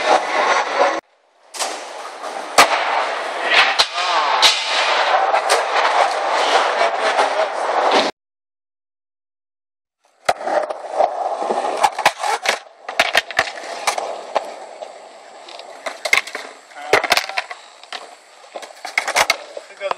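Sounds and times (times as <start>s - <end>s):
skateboard wheels rolling on concrete: 0.0s - 8.1s, 10.0s - 19.9s
skateboards clacking on ground: 1.6s - 7.8s, 10.1s - 19.9s.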